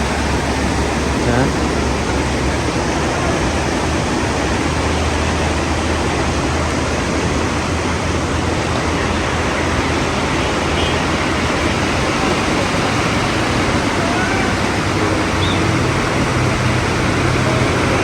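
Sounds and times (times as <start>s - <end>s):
heavy rain pouring: 0.0s - 18.0s
low vehicle rumble: 0.0s - 18.0s.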